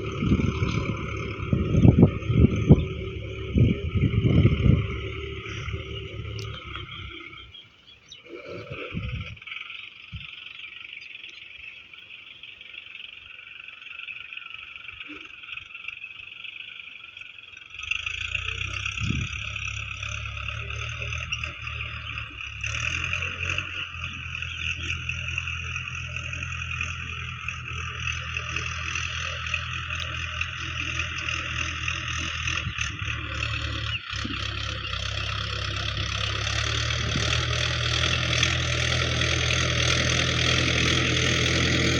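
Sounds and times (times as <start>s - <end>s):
frogs croaking: 0.0s - 41.9s
tractor diesel engine idling: 0.0s - 41.9s.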